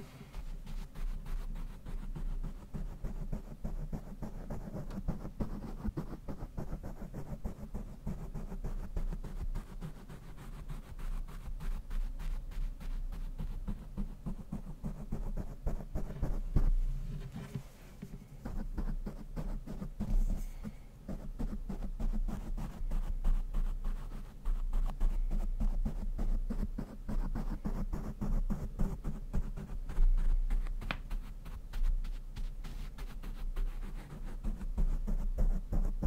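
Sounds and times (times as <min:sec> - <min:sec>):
brush rubbing on microphone: 0:00.0 - 0:36.0.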